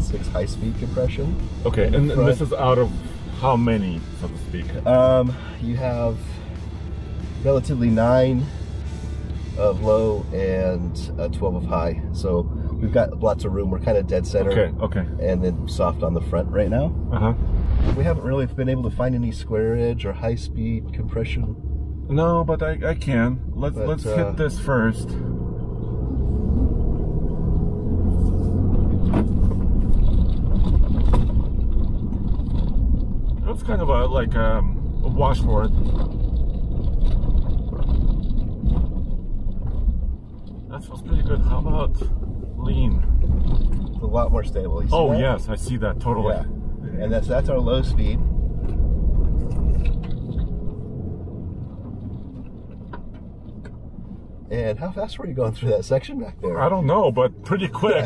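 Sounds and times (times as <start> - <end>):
truck engine and tyres rumbling: 0.0 - 58.0.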